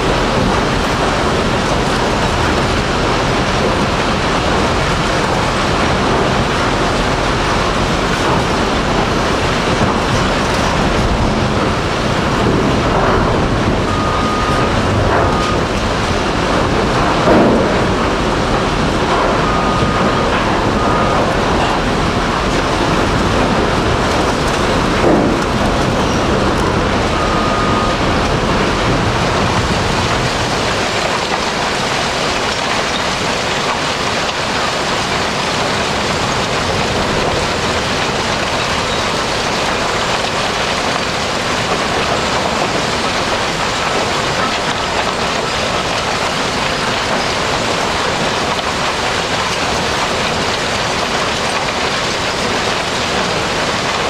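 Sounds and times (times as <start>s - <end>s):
shredder plant heavy rumble: 0.0s - 54.0s.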